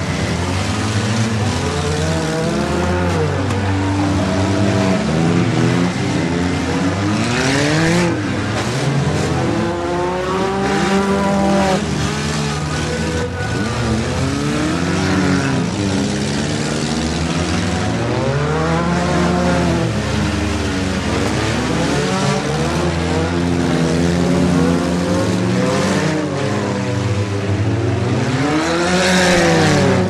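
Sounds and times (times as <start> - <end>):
car engines revving hard: 0.0 - 30.0.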